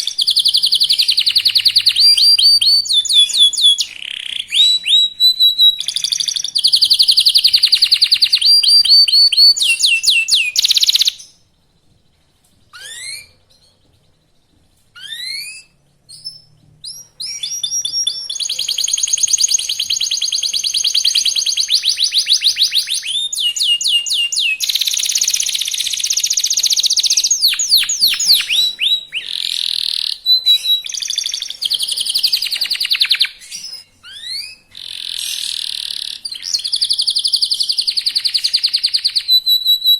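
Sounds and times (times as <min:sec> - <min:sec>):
canary singing trills: 0:00.0 - 0:11.9, 0:12.6 - 0:39.9.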